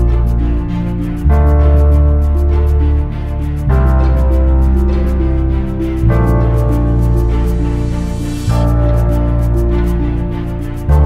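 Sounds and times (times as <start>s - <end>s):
background music with bass and beat: 0.0s - 11.0s.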